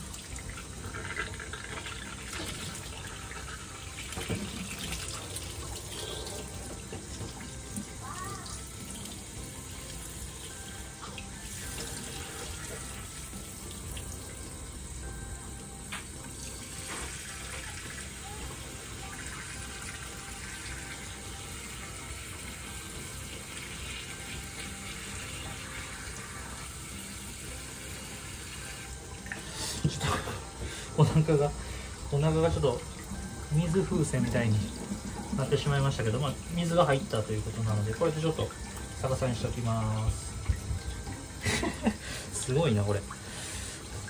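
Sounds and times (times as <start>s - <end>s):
water running into a sink: 0.0s - 44.0s.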